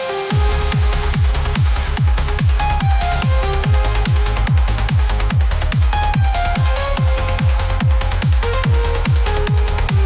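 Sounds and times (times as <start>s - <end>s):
electronic trance music: 0.0s - 10.0s.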